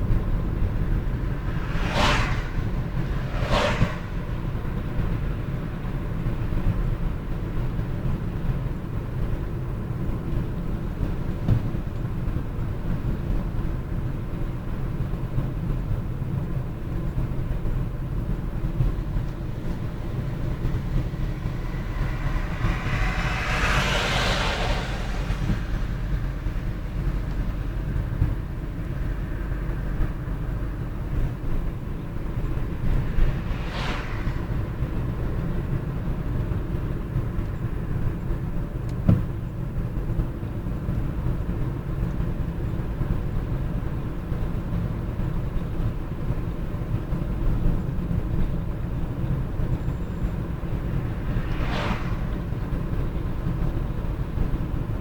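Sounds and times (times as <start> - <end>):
vehicles passing: 0.0 - 15.5, 16.9 - 55.0
traffic road rumble: 0.0 - 55.0.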